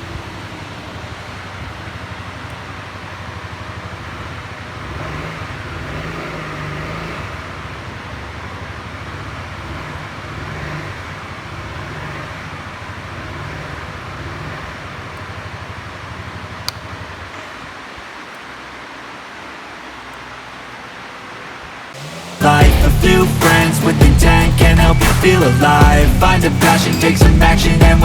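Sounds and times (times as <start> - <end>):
scooter engine idling: 0.0 - 17.4, 22.0 - 28.0.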